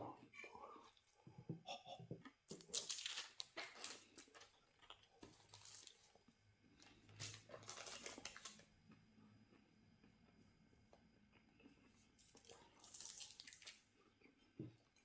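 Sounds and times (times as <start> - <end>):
chewing crispy food: 2.4 - 15.0.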